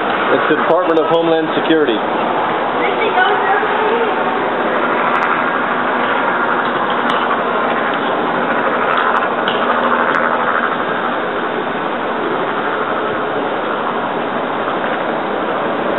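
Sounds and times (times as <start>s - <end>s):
helicopter flying overhead: 0.0s - 15.9s.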